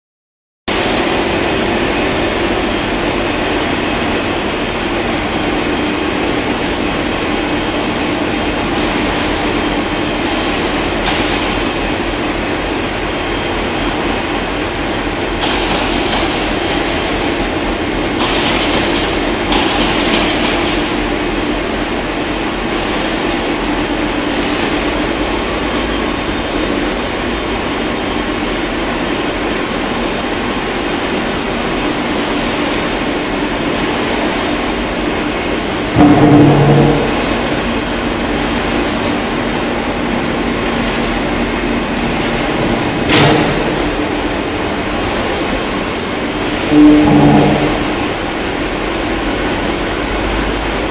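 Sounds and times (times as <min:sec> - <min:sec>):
factory machinery running: 0:00.7 - 0:50.9.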